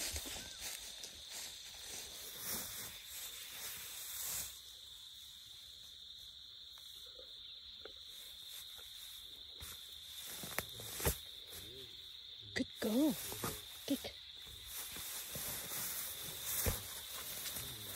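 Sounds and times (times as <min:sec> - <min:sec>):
rustling in grass: 0:00.0 - 0:07.0, 0:08.0 - 0:17.9
insects chirring: 0:00.0 - 0:17.9.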